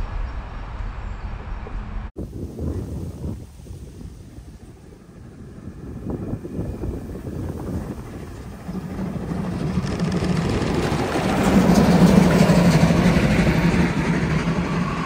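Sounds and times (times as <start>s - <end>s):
train approaching: 0.0s - 2.1s, 3.4s - 15.0s.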